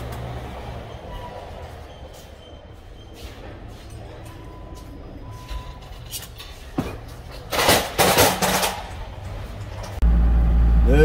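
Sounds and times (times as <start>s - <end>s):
wheels and load clattering: 0.0s - 11.0s.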